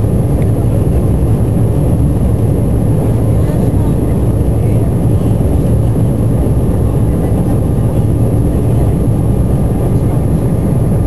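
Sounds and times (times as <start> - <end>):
jet engine rumble in cabin: 0.0 - 11.0.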